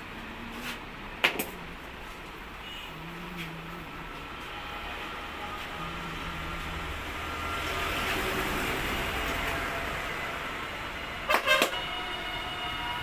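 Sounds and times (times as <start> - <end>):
hum of passing vehicles: 0.0 - 13.0.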